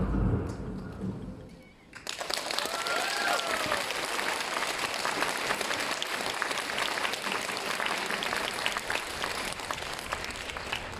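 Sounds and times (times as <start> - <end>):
audience applauding: 1.9 - 10.9.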